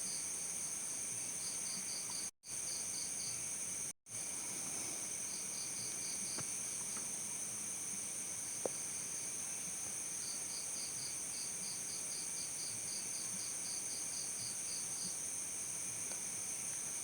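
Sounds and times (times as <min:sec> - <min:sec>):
rhythmic cricket chirp: 0:00.0 - 0:17.0.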